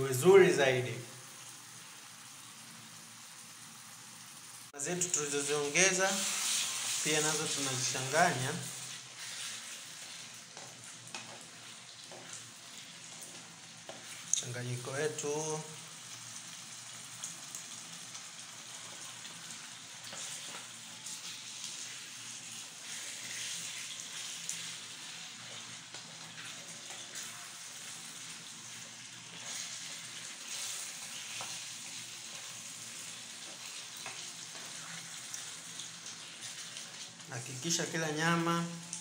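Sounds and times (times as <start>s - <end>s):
meat sizzling in sauce: 0.0s - 39.0s.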